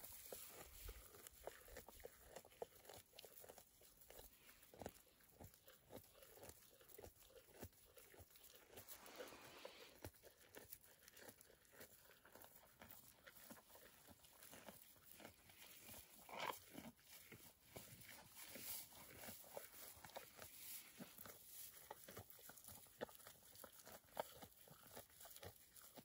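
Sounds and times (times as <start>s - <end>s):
calf chewing hay: 0.0s - 26.0s.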